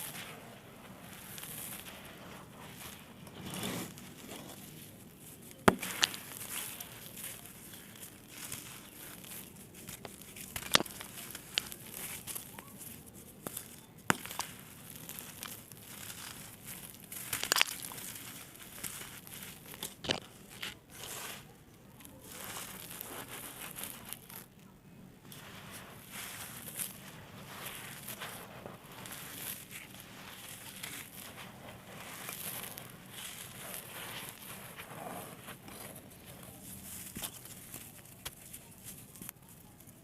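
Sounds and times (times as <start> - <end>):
clay blocks crushed gritty crackle: 0.0 - 40.0.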